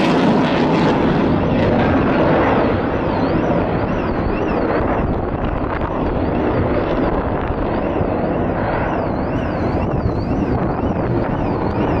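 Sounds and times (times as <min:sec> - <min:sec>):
jet engine roar: 0:00.0 - 0:12.0
faint high whine: 0:01.5 - 0:12.0.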